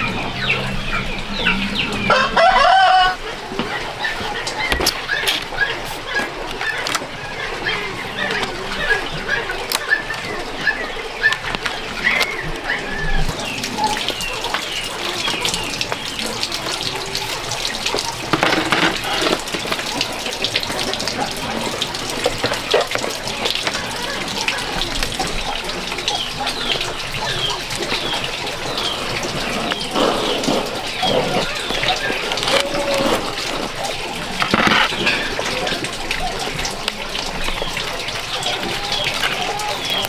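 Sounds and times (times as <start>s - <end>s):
small birds chirping: 0.0s - 2.3s, 3.6s - 40.0s
water running and splashing: 0.0s - 40.0s.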